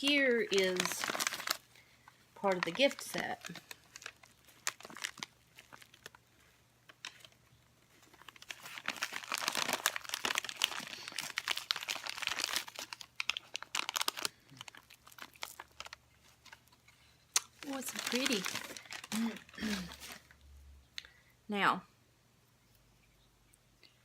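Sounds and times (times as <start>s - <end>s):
packing material crinkling: 0.0s - 20.4s.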